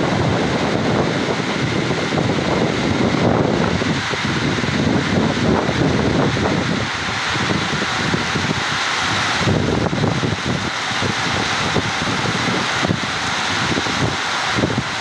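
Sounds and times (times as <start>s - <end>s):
steady rain hiss: 0.0s - 15.0s
wind buffeting microphone: 0.0s - 15.0s.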